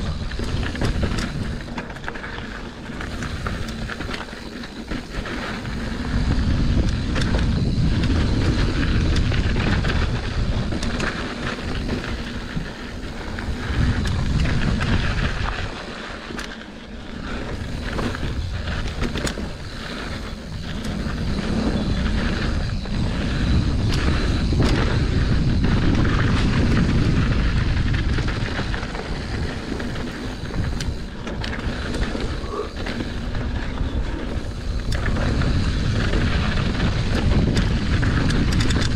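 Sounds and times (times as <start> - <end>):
bike clicks and knocks: 0.0 - 38.9
tyres rolling over dirt: 0.0 - 38.9
wind noise on microphone: 0.0 - 38.9.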